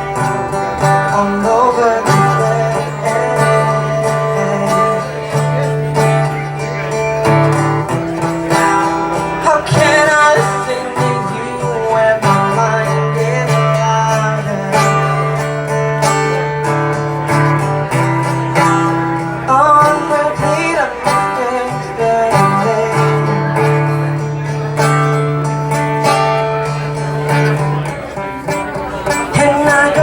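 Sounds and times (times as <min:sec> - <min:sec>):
person singing: 0:00.0 - 0:24.8, 0:28.6 - 0:30.0
acoustic guitar: 0:00.0 - 0:30.0.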